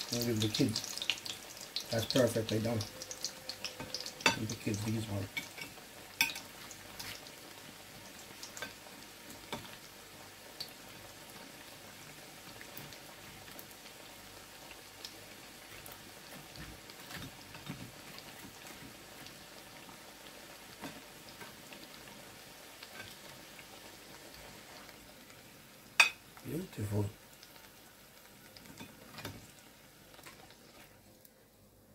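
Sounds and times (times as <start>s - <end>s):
food sizzling in oil: 0.0s - 31.2s.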